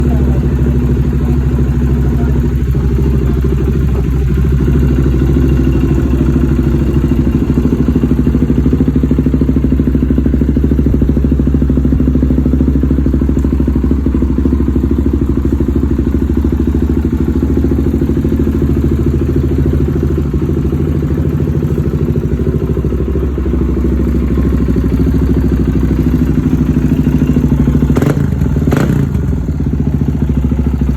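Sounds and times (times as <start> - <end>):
motorcycle engine idling: 0.0 - 30.9.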